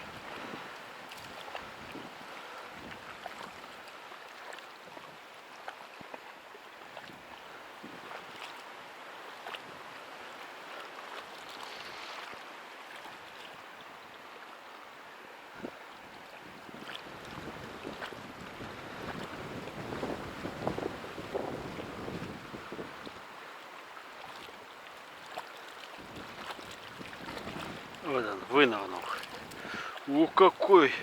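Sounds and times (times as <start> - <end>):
water lapping: 0.0 - 31.0.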